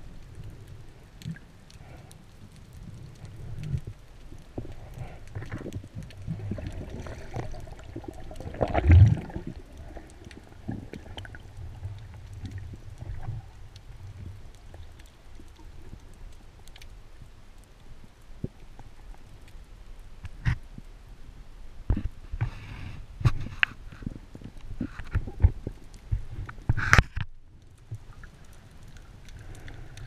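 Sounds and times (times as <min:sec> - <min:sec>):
faint clicks and crackles: 0:00.0 - 0:30.0
underwater rumble of moving water: 0:00.0 - 0:30.0.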